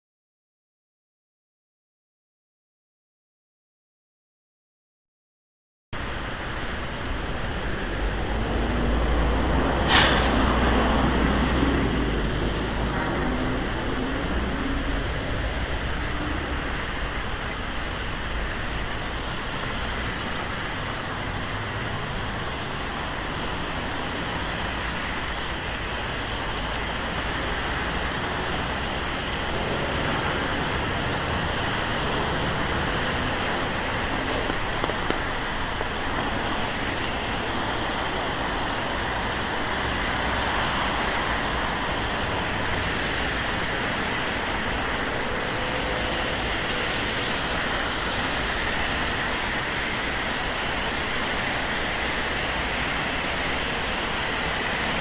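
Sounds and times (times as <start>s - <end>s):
steady rain: 6.0s - 55.0s
traffic on wet streets: 6.0s - 55.0s.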